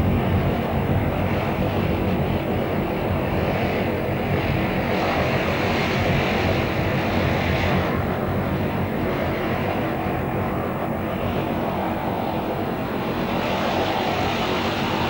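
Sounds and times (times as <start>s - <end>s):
biplane engine and propeller: 0.0s - 15.0s.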